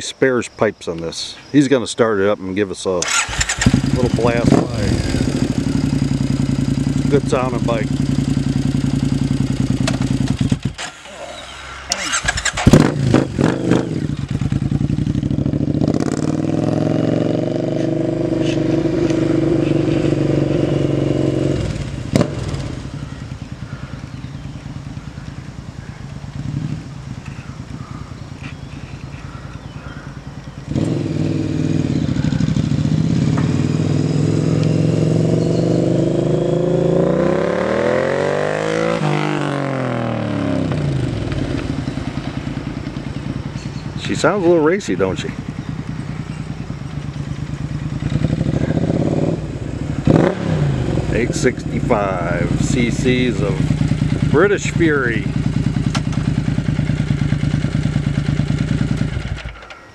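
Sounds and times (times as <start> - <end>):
motorcycle engine idling and accelerating: 1.0 - 59.9
motorcycle drive-by: 3.1 - 59.9.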